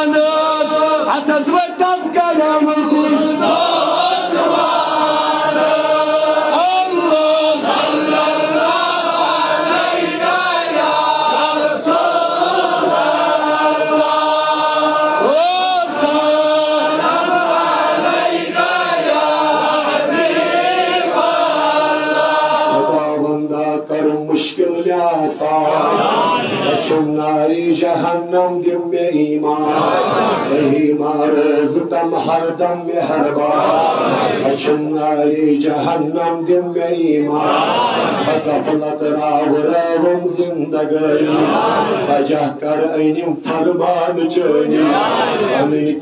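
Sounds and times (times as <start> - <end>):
man chanting devotional song: 0.0 - 37.5, 38.2 - 46.0.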